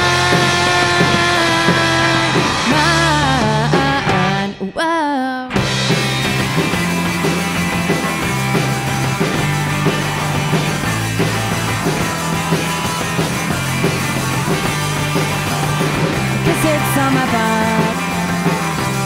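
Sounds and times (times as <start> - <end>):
rock band playing live: 0.0 - 4.8, 5.5 - 19.0.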